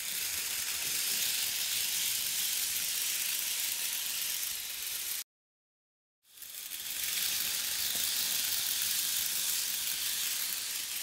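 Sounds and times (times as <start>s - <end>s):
model train motor hiss: 0.0s - 5.2s, 6.3s - 11.0s.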